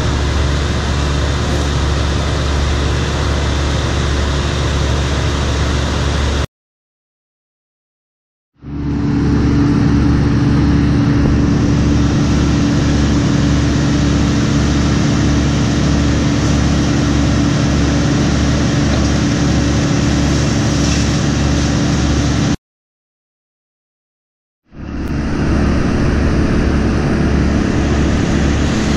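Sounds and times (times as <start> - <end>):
heavy engine throbbing: 0.0 - 6.5, 8.6 - 22.6, 24.7 - 28.9.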